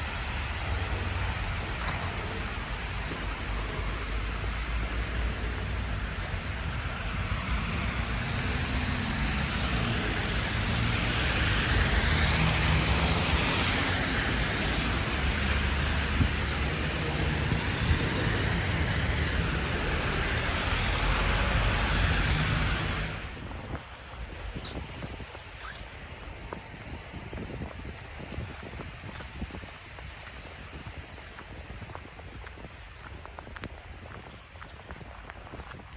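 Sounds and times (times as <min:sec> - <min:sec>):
vehicles passing: 0:00.0 - 0:35.9.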